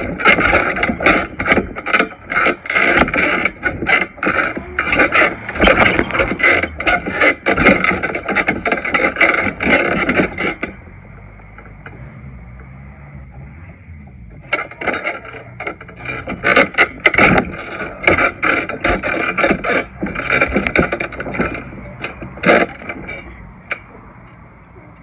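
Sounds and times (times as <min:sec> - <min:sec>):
trampoline springs knocking and rattling: 0:00.0 - 0:25.0.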